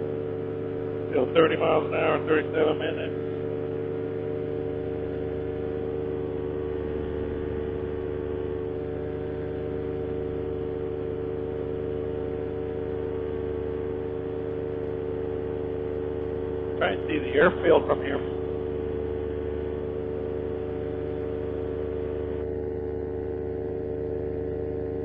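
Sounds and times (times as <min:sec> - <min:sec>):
paramotor engine droning: 0:00.0 - 0:25.0.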